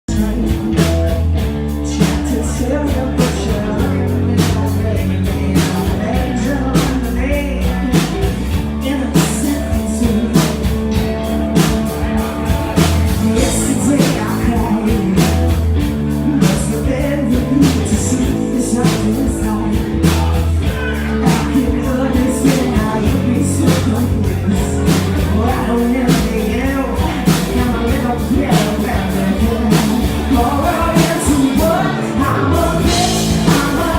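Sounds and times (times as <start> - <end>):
drums beating: 0.1 - 33.9
live rock band playing: 0.1 - 33.9.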